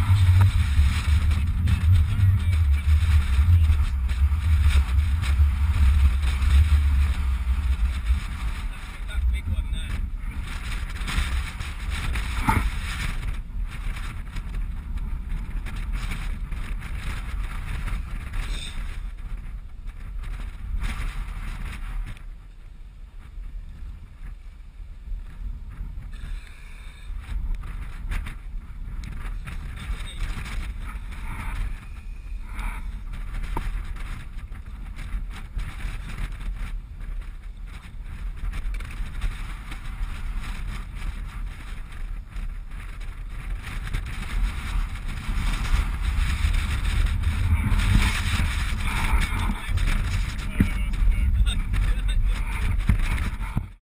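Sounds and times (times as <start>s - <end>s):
wind buffeting microphone: 0.0s - 53.8s.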